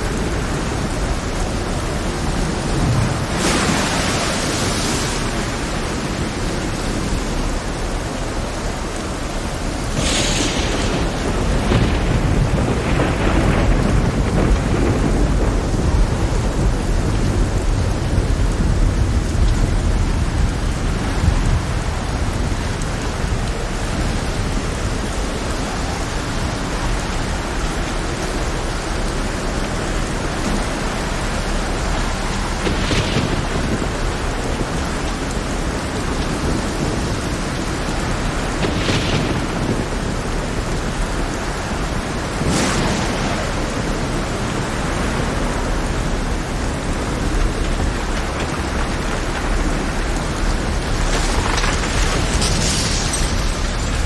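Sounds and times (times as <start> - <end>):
heavy rain: 0.0 - 54.0
thunder cracks and rumble: 0.0 - 54.0.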